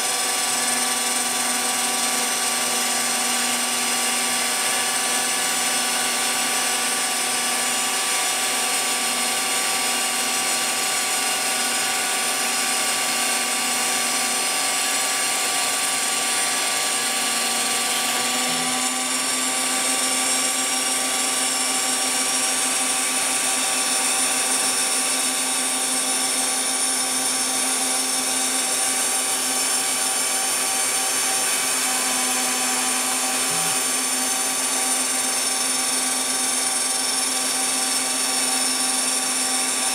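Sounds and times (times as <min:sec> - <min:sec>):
milling spindle whine: 0:00.0 - 0:39.9.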